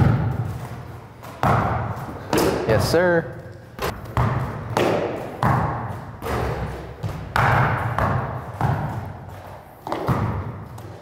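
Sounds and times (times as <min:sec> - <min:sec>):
basketballs bouncing on court floor: 0:00.0 - 0:11.0.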